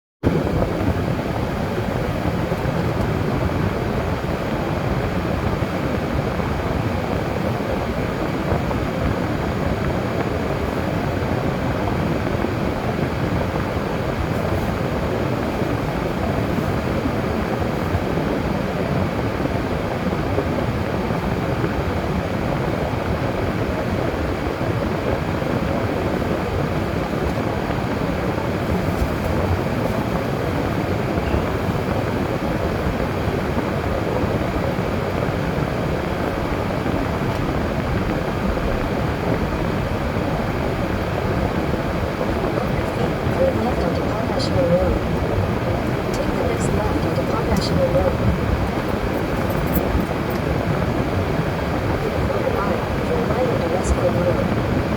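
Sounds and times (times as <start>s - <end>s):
car driving on snowy road: 0.3s - 54.9s.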